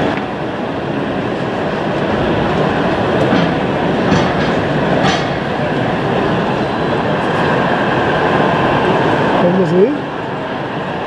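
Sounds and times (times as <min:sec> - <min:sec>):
model train rolling rumble: 0:00.0 - 0:09.8.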